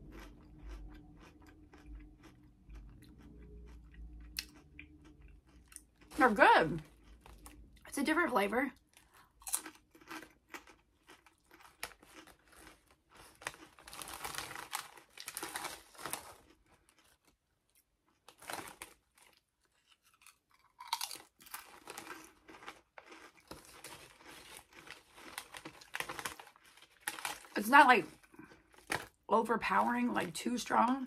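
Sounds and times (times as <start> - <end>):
potato chips crunching: 0.0 - 8.1, 8.8 - 29.3.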